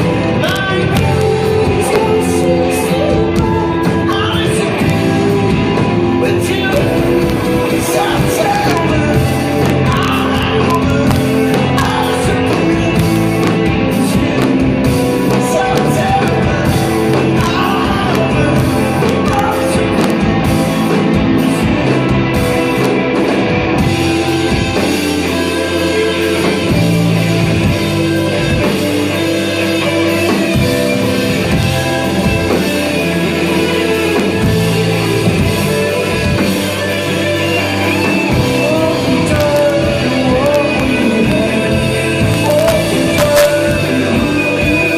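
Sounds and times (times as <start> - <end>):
person singing: 0.0 - 22.9, 23.8 - 44.9
rock band playing live: 0.0 - 44.9.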